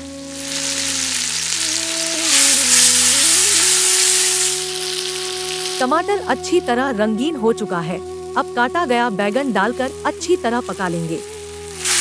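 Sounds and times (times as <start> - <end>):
tomatoes sizzling in hot oil: 0.0 - 12.0.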